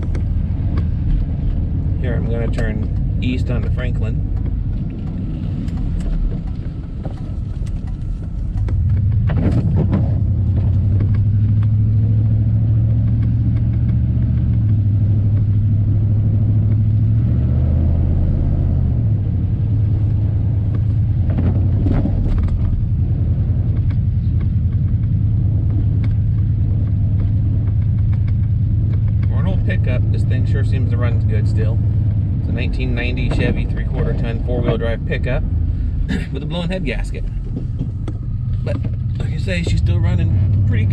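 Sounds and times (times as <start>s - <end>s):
pickup truck engine accelerating: 0.0s - 40.9s.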